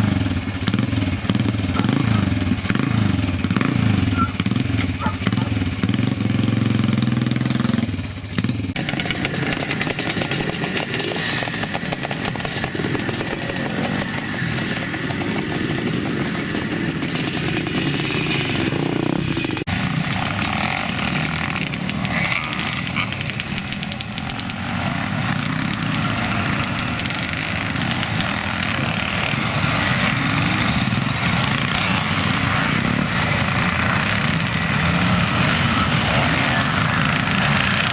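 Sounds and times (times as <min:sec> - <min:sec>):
motocross motorcycles revving: 0:00.0 - 0:37.9.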